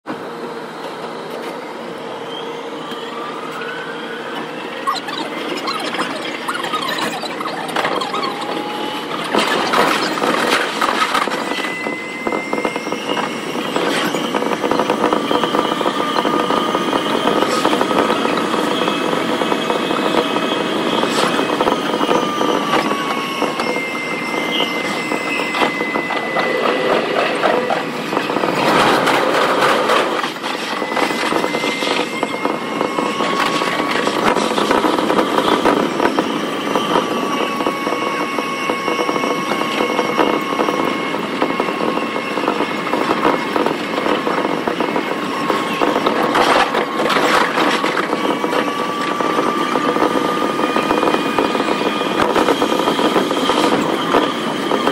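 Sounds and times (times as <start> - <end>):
wheel and track noise: 0.1 - 54.9
whining train motor: 0.1 - 54.9.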